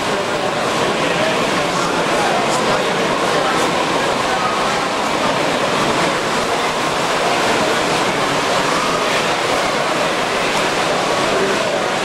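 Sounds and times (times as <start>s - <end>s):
many people talking: 0.0s - 12.0s
model trains running: 0.0s - 12.0s.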